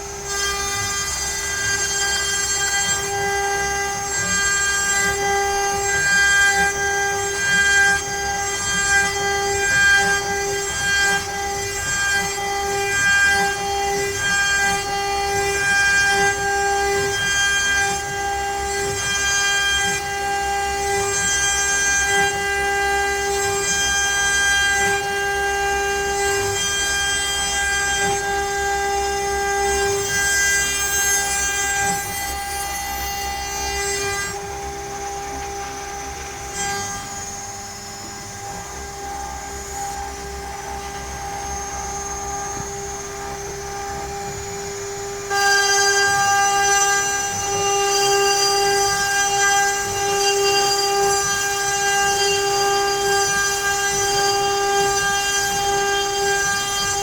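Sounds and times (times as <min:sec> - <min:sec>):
router spindle whining: 0:00.0 - 0:57.0.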